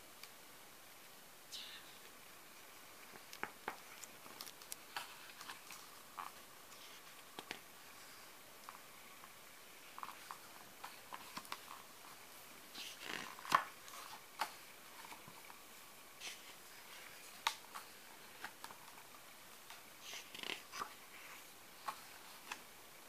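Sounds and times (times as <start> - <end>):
book pages turning: 3.0 - 8.0, 8.6 - 15.6, 16.2 - 22.7.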